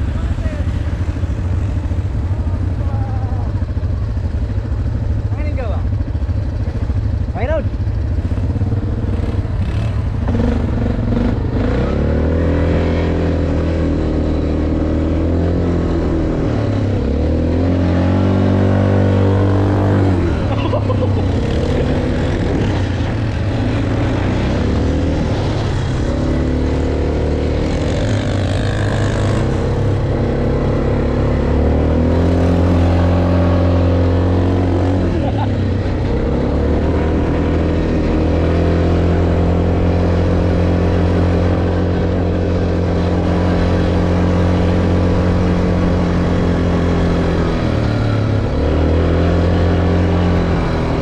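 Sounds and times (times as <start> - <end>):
atv engine revving: 0.0 - 51.0.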